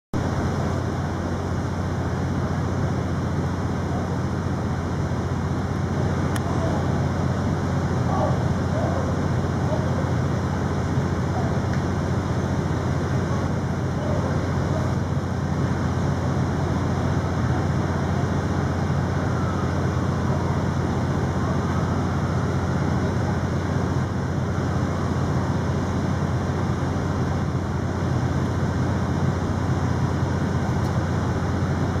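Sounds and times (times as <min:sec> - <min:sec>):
city street rumble: 0:00.1 - 0:32.0.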